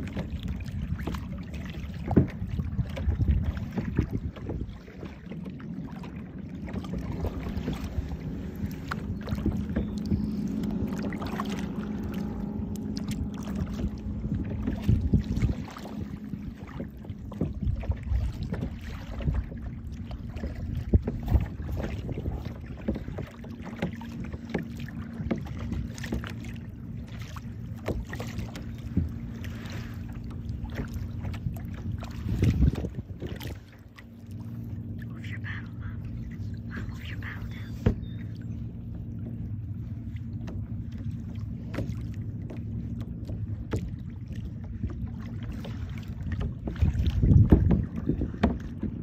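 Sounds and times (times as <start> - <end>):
paddle strokes splashing: 0.0 - 49.0
steady low hum: 0.0 - 49.0.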